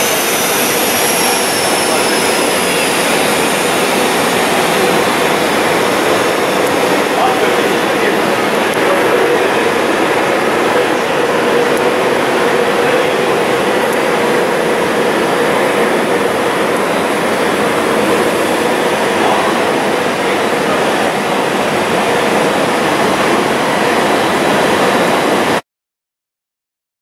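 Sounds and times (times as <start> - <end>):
electric locomotive whirring: 0.0 - 25.6
steady mid-pitched tone: 0.0 - 25.6.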